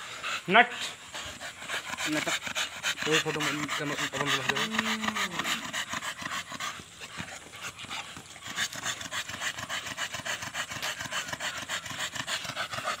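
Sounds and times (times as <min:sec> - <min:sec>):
dog panting rapidly: 0:00.0 - 0:13.0.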